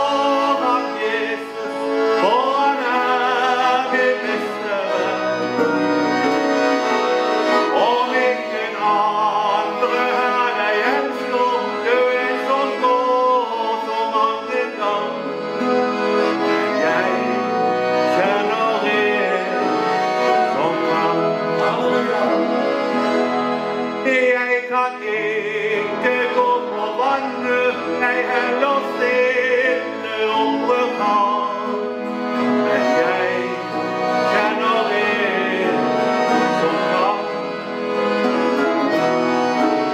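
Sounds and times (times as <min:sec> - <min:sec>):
man singing: 0:00.0 - 0:05.8, 0:07.6 - 0:23.2, 0:23.9 - 0:37.7
accordion: 0:00.0 - 0:39.9.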